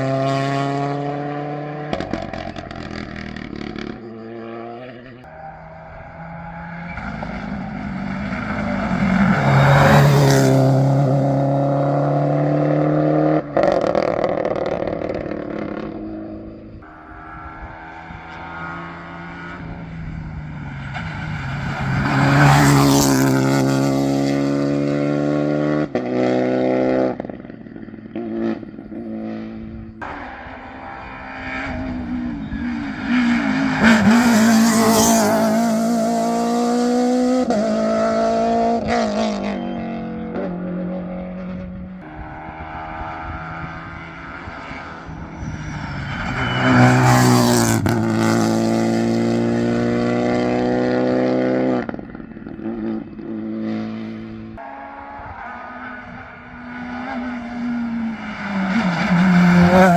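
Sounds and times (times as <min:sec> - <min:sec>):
rally cars at full throttle: 0:00.0 - 0:59.9.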